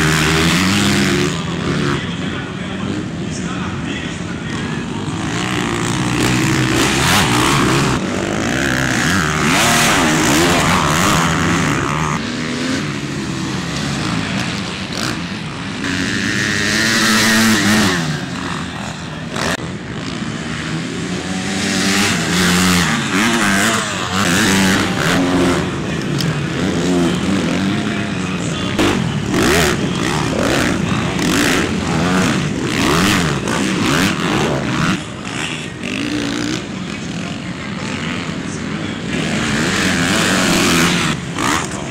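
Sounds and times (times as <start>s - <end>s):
motocross bikes revving: 0.0s - 41.9s.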